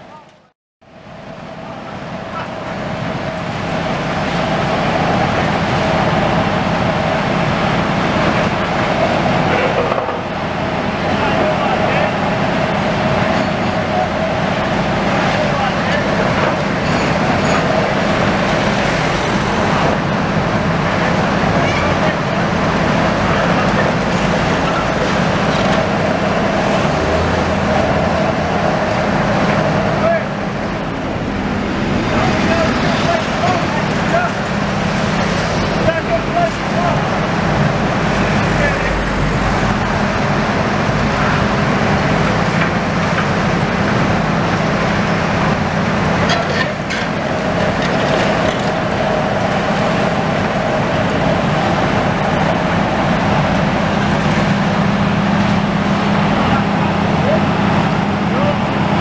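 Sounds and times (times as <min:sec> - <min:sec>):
excavator engine and hydraulics: 0:00.0 - 0:59.0
heavy machinery rumbling: 0:00.0 - 0:59.0
steady mid-pitched whine: 0:00.0 - 0:59.0.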